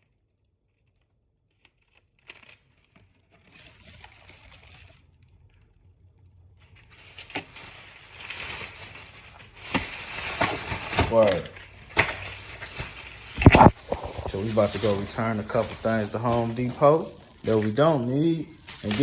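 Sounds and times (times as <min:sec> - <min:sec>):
rustling and crinkling: 0:00.6 - 0:19.0.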